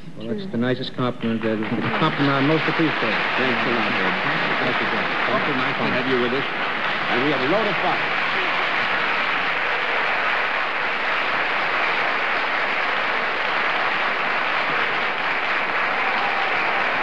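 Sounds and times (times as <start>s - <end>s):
audience applauding: 1.2s - 17.0s.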